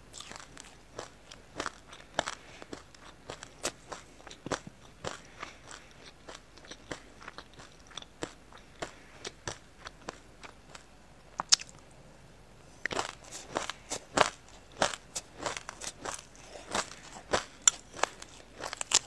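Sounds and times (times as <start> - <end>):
chewing crunchy seeds: 0.0 - 11.8, 12.7 - 19.0.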